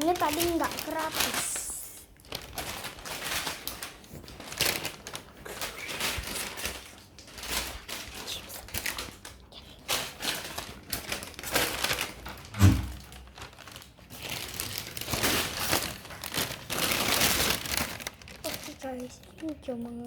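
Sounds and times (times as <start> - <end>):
plastic bag rustling: 0.0 - 20.0.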